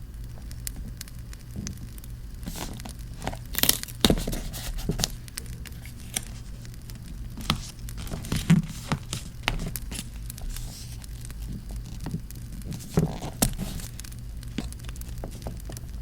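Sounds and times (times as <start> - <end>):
low steady rumble: 0.0 - 16.0
scattered crackles: 0.0 - 16.0
paper crinkling and tearing: 2.4 - 16.0.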